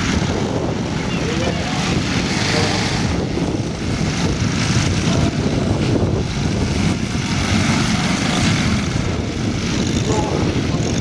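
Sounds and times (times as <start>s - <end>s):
model airplane propeller engine: 0.0s - 11.0s.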